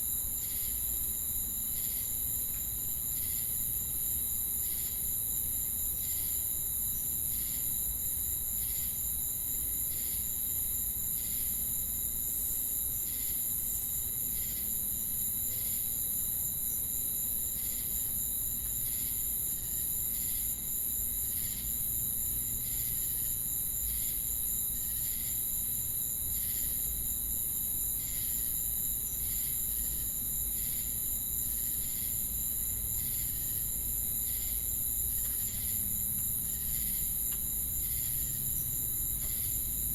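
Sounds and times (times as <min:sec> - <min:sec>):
high-pitched insect trill: 0:00.0 - 0:39.9
slower insect chirp: 0:00.0 - 0:39.9.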